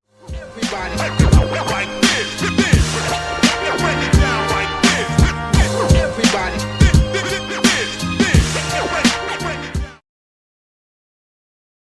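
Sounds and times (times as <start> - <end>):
hip-hop beat music: 0.1 - 10.0.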